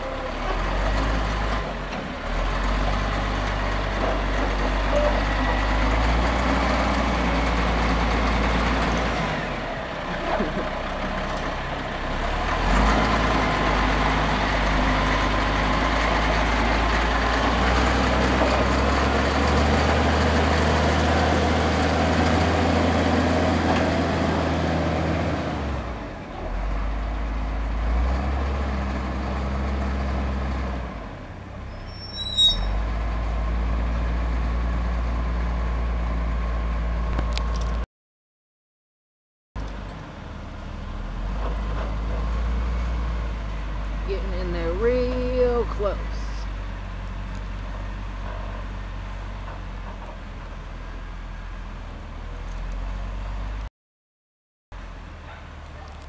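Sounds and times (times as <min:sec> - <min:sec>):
diesel loader engine under load: 0:00.0 - 0:37.9, 0:39.6 - 0:53.7, 0:54.8 - 0:56.0.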